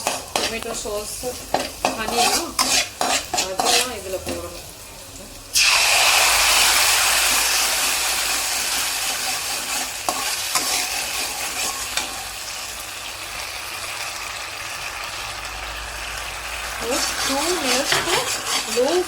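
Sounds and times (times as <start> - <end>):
sauce sizzling in hot oil: 0.0 - 19.0.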